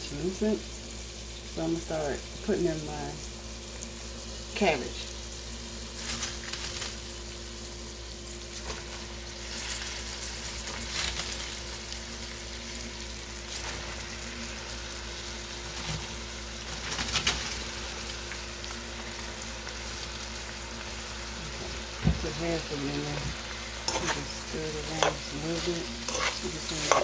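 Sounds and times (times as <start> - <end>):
vegetables sizzling in a skillet: 0.0 - 27.0.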